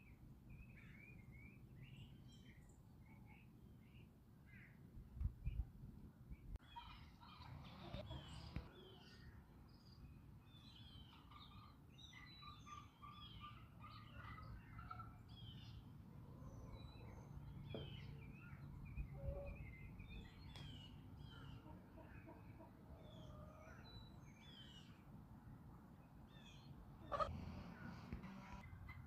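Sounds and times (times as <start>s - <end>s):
small birds chirping: 0.0s - 25.1s.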